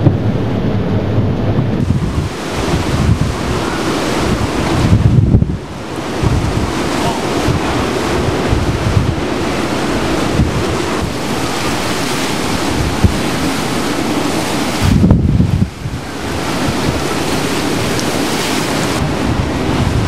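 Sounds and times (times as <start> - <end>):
hurricane-force wind: 0.0 - 20.0
wind buffeting microphone: 0.0 - 20.0
wind-driven rain: 0.0 - 20.0.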